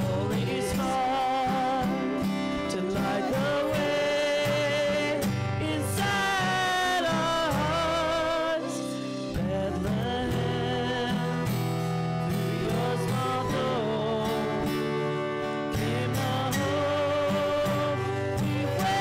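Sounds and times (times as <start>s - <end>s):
acoustic guitars: 0.0s - 19.0s
woman singing: 0.0s - 19.0s.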